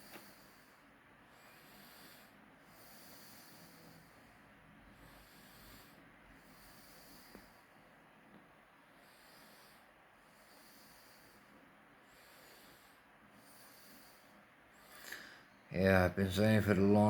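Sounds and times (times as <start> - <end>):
faint breathing: 0.0 - 17.0.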